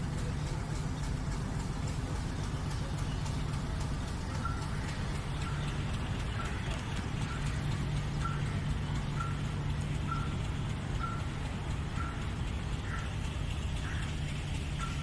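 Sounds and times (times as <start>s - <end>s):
diesel locomotive humming: 0.0s - 15.0s.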